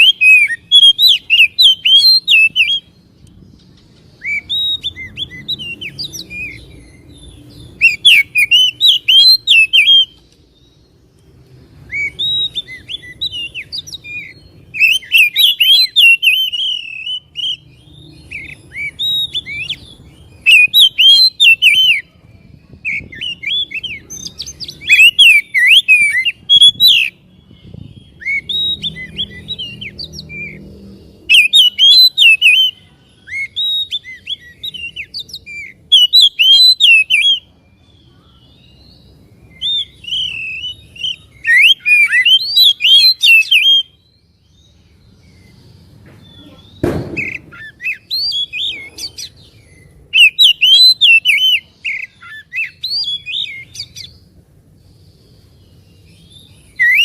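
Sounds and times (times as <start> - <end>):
bird singing whistled chattering notes: 0.0 - 37.5, 38.4 - 57.0.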